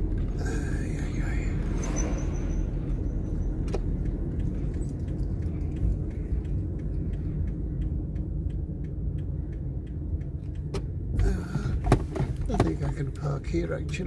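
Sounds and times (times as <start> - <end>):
car rolling rumble: 0.0 - 14.0
turn signal ticking: 0.0 - 14.0.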